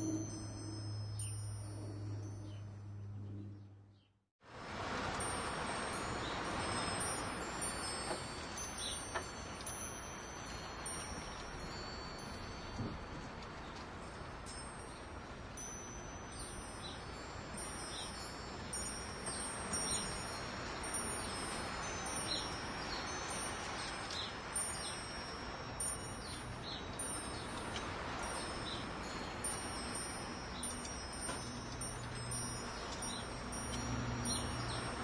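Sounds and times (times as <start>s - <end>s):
metal wind chimes ringing: 0.0s - 3.6s, 4.9s - 35.0s.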